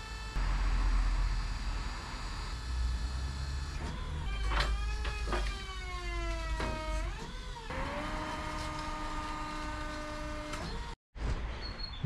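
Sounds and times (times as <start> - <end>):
hydraulic motor humming: 0.0 - 11.0.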